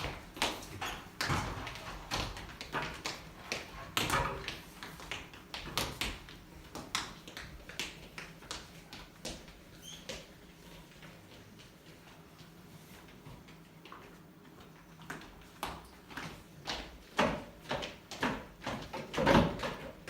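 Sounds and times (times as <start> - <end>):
footsteps on stage floor: 0.0 - 20.0.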